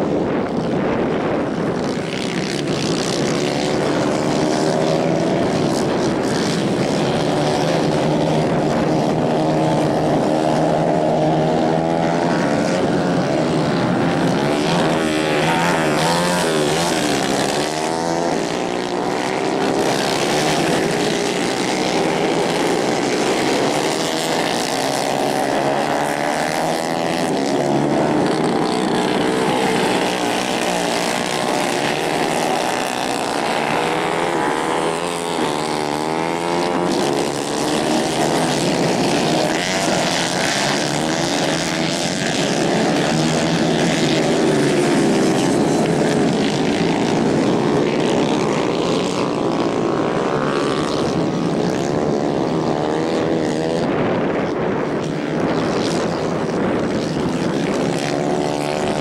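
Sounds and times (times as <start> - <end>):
racing kart engines buzzing: 0.0 - 59.0.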